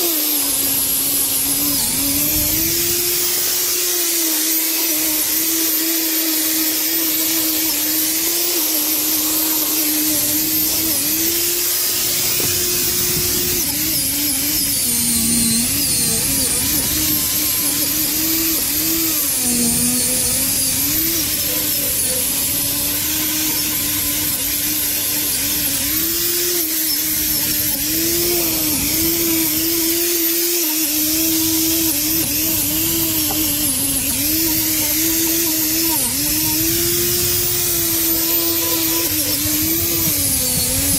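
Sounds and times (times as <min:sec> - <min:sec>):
angle grinder motor whine: 0:00.0 - 0:40.9
grinder scraping metal: 0:00.0 - 0:40.9.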